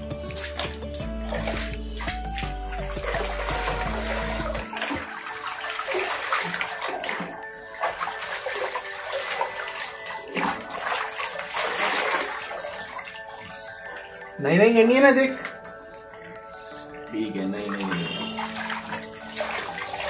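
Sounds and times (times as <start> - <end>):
background music: 0.0 - 20.0
water pouring and splashing: 0.0 - 20.0.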